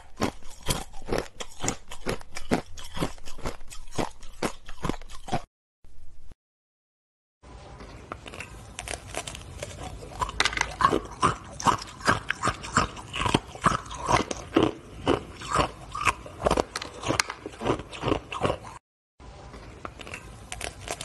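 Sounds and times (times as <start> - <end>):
ice being chewed: 0.0 - 5.5, 8.2 - 18.8, 19.6 - 21.0.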